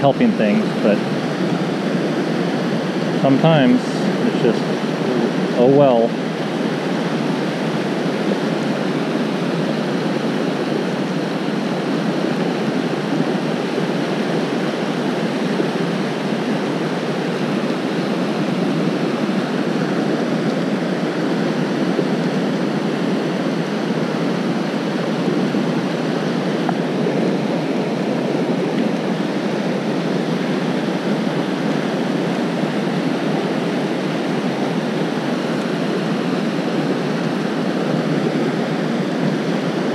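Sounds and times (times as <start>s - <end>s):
river rushing over rocky rapids: 0.0s - 39.9s.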